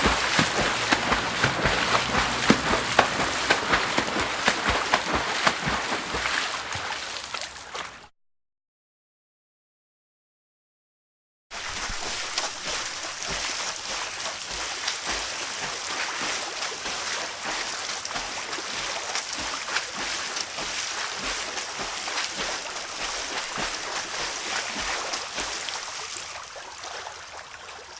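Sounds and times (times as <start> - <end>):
water splashing from swimmer: 0.0 - 8.1, 11.5 - 27.9.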